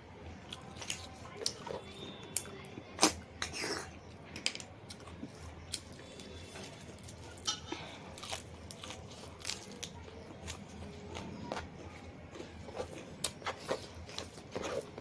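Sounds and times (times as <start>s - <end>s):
person chewing food: 0.4s - 3.9s, 4.9s - 15.0s.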